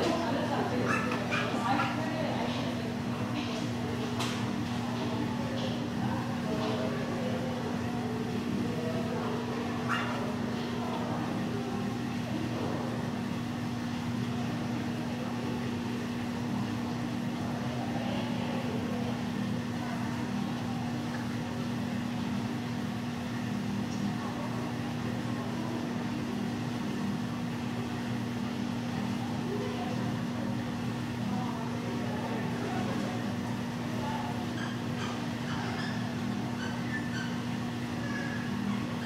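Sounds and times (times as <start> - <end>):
faint voices: 0.0 - 39.0
low mechanical hum: 0.0 - 39.0.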